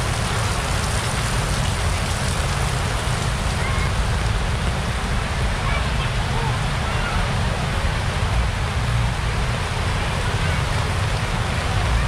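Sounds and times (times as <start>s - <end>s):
heavy rain pouring on street: 0.0s - 12.0s.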